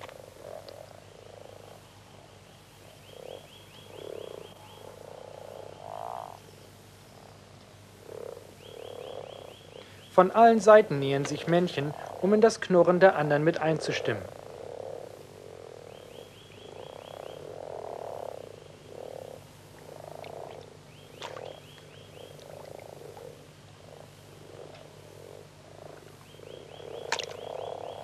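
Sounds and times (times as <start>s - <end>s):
frogs growling: 0.0s - 28.0s
steady low hum: 0.0s - 28.0s.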